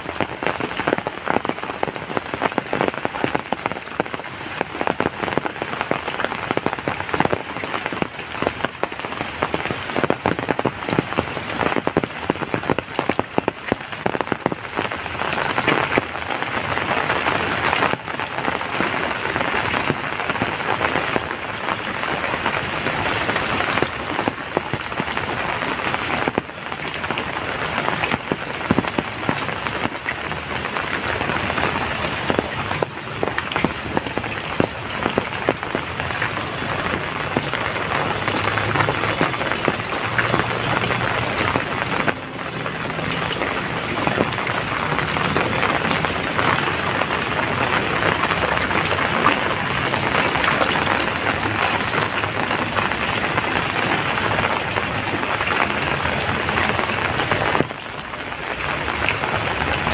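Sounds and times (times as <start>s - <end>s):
heavy rain falling: 0.0s - 59.9s
raindrops hitting surface: 0.0s - 59.9s.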